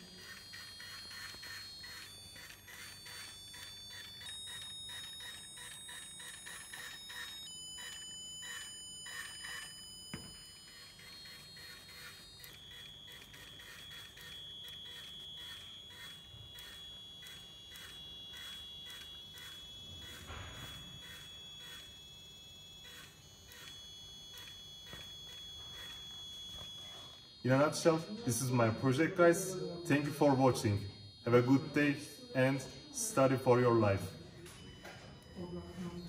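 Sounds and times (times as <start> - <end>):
piezo buzzer beeping: 0.0 - 36.0
steady high tone: 0.0 - 36.0.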